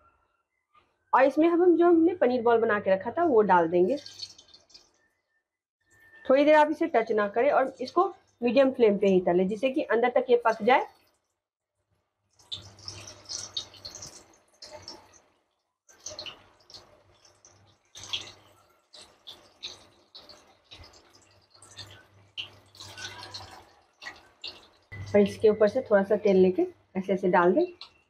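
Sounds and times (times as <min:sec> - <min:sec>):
food deep-frying in oil: 0:01.2 - 0:05.1, 0:05.9 - 0:11.3, 0:12.3 - 0:26.8.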